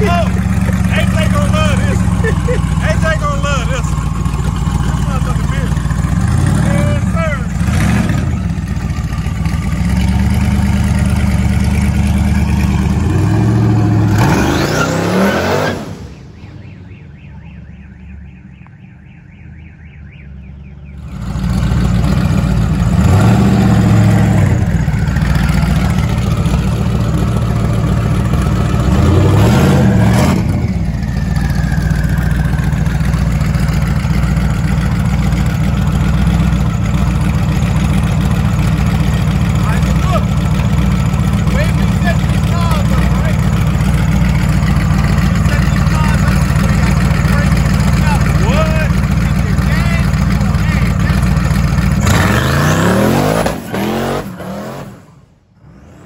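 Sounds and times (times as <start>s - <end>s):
loud car engine revving: 0.0s - 16.2s, 21.0s - 56.0s.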